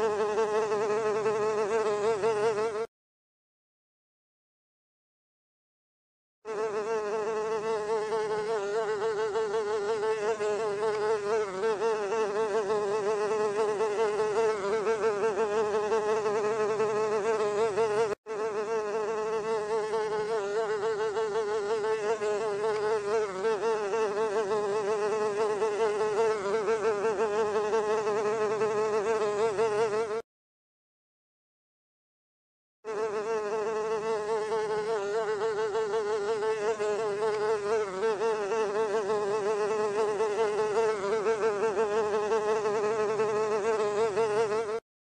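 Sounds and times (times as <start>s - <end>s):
housefly buzzing: 0.0s - 2.9s, 6.5s - 30.3s, 32.8s - 44.9s.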